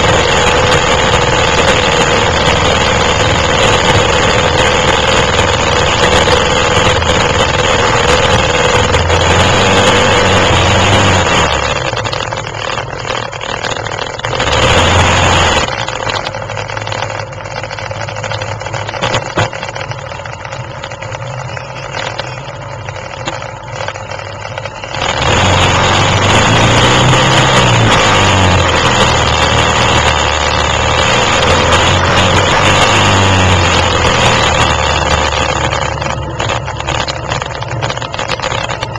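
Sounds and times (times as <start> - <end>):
quad bike engines revving: 0.0 - 38.9.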